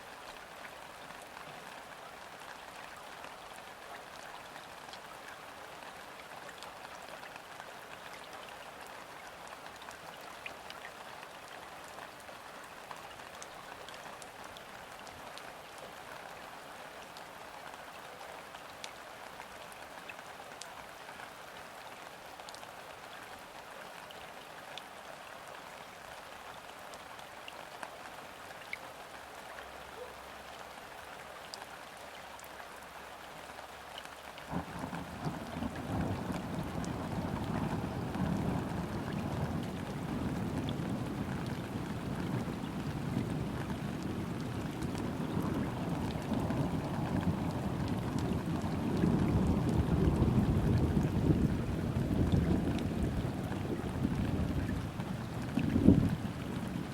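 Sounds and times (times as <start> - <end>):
rain falling on river: 0.0 - 56.9.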